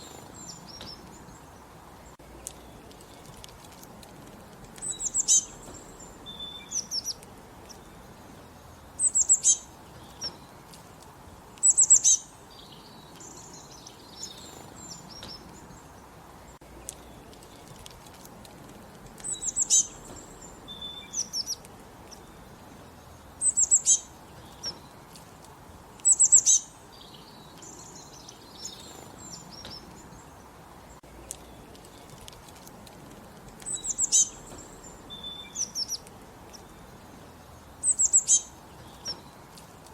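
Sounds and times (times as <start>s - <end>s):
faint outdoor hiss: 0.0s - 39.9s
soft bird chirps: 0.0s - 39.9s
songbirds singing: 0.0s - 39.9s.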